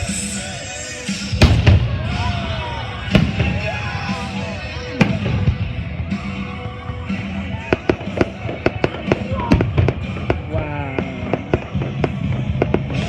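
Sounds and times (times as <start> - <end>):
background music: 0.0 - 13.0
fireworks popping and crackling: 1.3 - 13.0.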